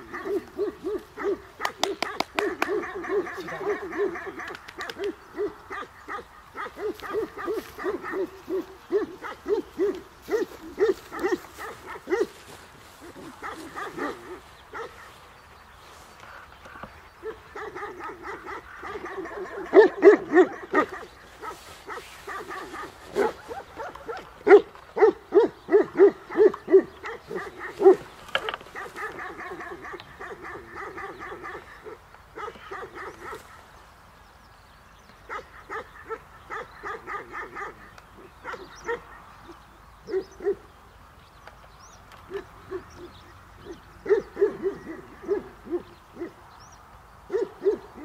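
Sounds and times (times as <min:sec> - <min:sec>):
dogs barking: 0:00.0 - 0:15.3, 0:16.7 - 0:33.7, 0:35.2 - 0:40.7, 0:42.2 - 0:46.5, 0:47.2 - 0:48.0.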